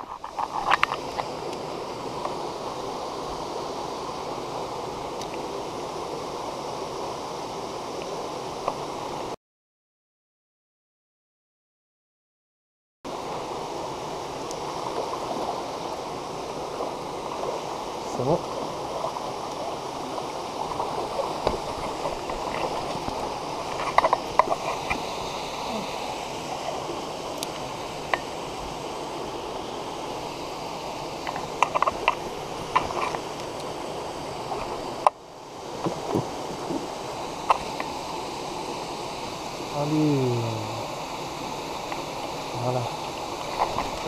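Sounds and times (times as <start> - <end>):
stream running over rocks: 0.0 - 9.4, 13.1 - 44.0.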